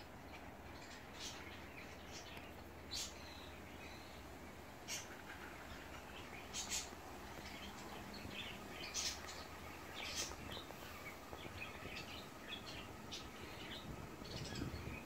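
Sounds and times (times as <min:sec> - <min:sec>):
faint low hum: 0:00.0 - 0:15.0
small birds chirping: 0:00.0 - 0:15.0.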